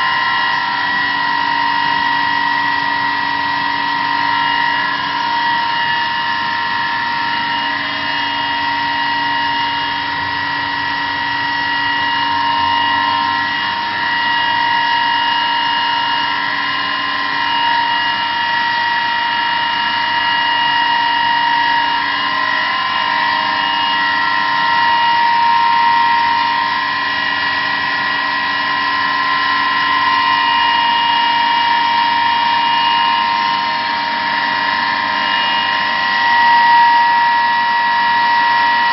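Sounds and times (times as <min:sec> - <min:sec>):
machine motor whining: 0:00.0 - 0:38.9.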